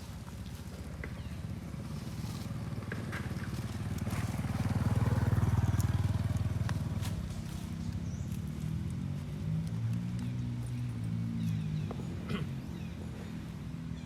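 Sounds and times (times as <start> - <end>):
small engine passing by: 0.0 - 14.0.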